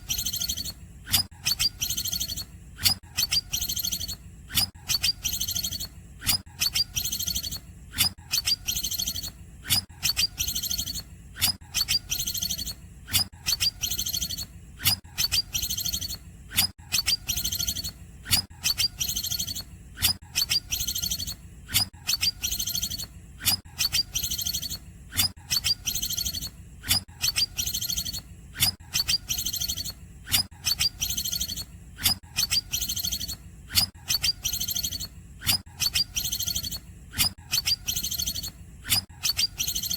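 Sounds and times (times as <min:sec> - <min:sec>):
bird singing sharp high chirps: 0:00.0 - 0:07.6, 0:08.3 - 0:09.4, 0:10.0 - 0:12.8, 0:13.4 - 0:14.5, 0:15.2 - 0:16.2, 0:16.9 - 0:19.7, 0:20.4 - 0:24.8, 0:25.5 - 0:26.5, 0:27.2 - 0:39.9.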